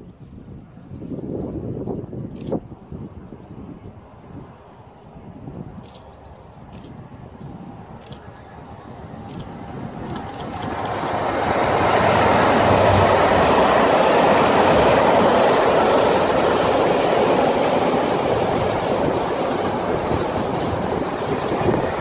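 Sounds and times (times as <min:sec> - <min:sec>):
diesel locomotive engine passing: 0:03.8 - 0:22.0.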